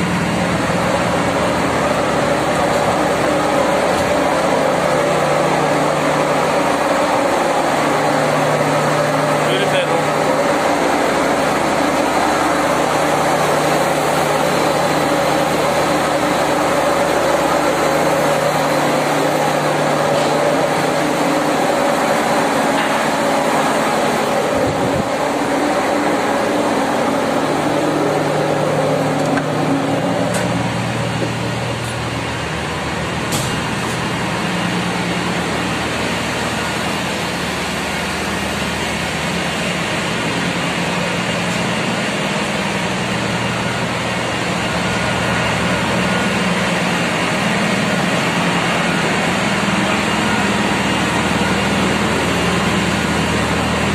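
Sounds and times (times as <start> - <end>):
engine room machinery drone: 0.0 - 53.9
machinery hums: 0.0 - 53.9.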